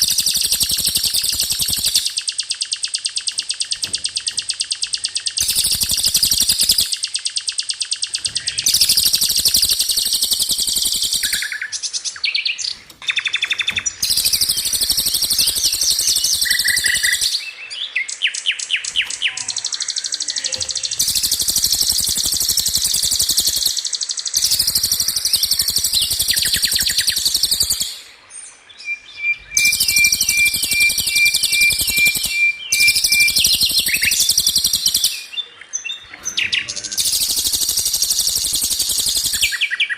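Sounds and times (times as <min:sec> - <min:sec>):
fast high-pitched bird trills: 0:00.0 - 0:28.1, 0:29.2 - 0:35.4, 0:36.0 - 0:39.9
whistled bird notes: 0:00.0 - 0:39.9.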